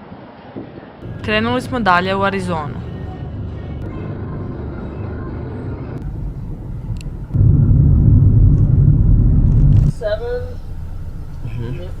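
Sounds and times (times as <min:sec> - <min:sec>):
car driving rumble: 0:01.0 - 0:12.0.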